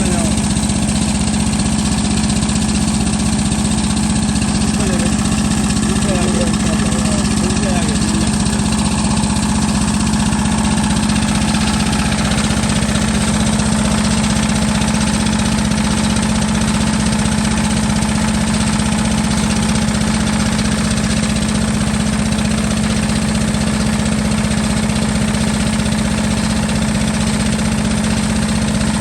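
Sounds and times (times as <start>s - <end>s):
drilling rig engine running: 0.0s - 29.0s.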